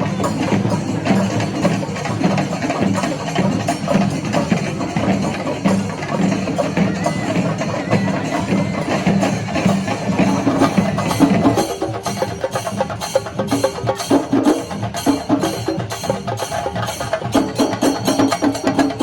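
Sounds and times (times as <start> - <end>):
rapid drumming with sticks: 0.0 - 19.0.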